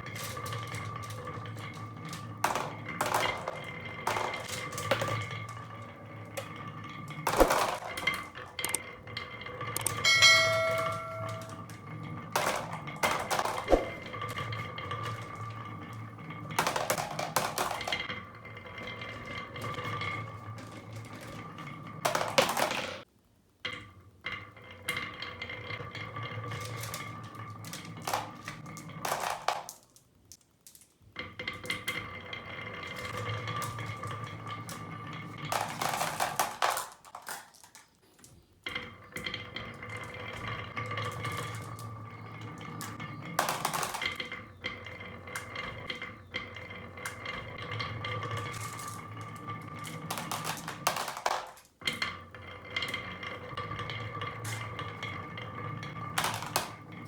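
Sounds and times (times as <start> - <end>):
marbles clacking on pieces: 0.0 - 23.1, 25.0 - 57.0
marbles rolling along track: 0.0 - 57.0.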